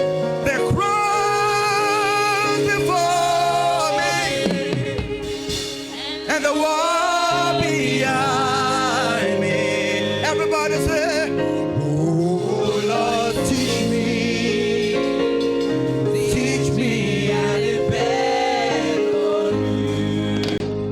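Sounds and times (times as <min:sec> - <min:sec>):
gospel singing with vibrato: 0:00.0 - 0:20.9
sustained accompaniment chords: 0:00.0 - 0:20.9.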